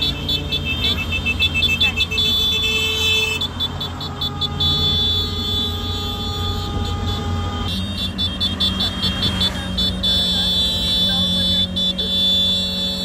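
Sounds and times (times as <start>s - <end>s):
held horn tones: 0.0s - 13.0s.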